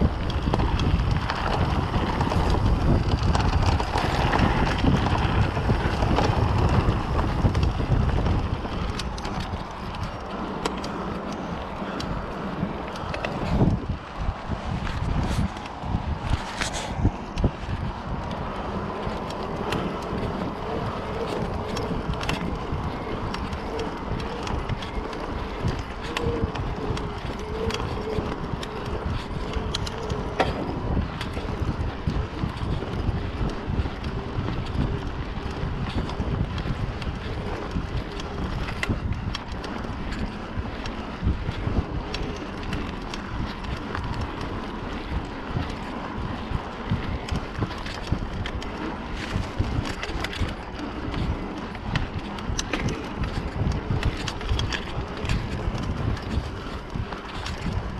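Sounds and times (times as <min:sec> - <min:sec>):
bike clicks and rattles: 0:00.0 - 0:57.9
tyres rumbling on dirt: 0:00.0 - 0:57.9
wind buffeting microphone: 0:00.0 - 0:57.9.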